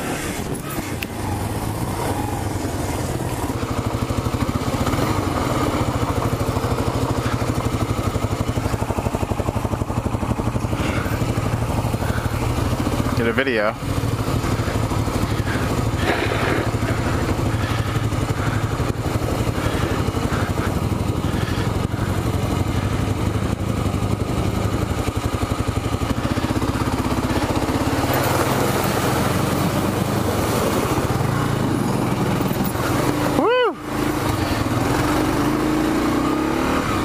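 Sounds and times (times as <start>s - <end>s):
motorcycle engine running: 0.0s - 37.0s
water rushing and splashing: 0.0s - 37.0s.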